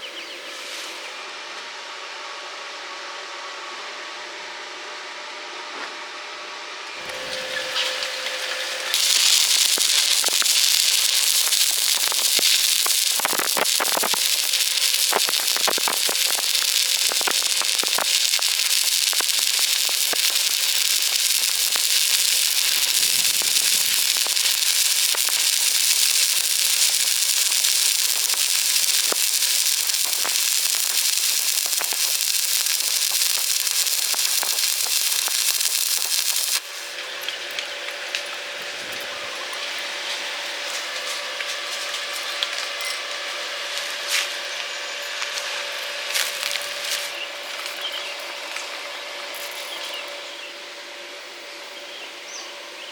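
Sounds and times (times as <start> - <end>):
arc welding crackle and hiss: 6.9 - 50.3.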